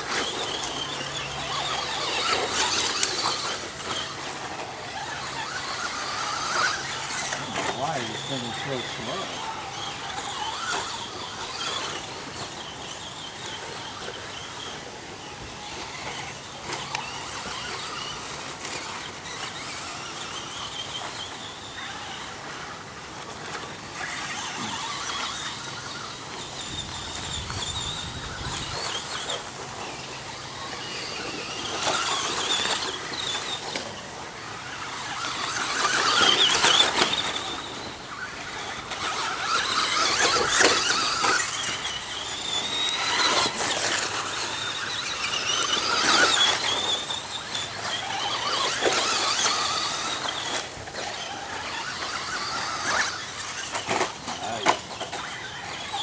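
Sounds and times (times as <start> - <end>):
rc trucks whining: 0.0 - 56.0.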